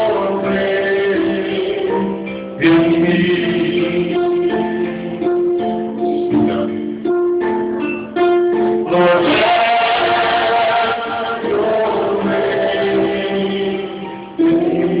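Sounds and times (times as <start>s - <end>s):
person singing: 0.0s - 15.0s
plucked string instrument: 0.0s - 15.0s.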